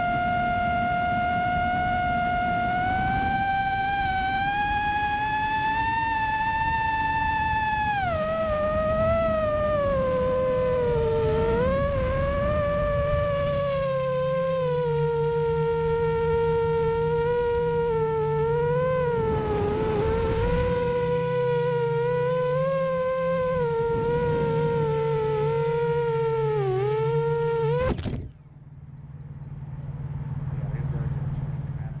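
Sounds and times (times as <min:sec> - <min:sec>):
drone motors whining: 0:00.0 - 0:32.0
low hum: 0:00.0 - 0:32.0.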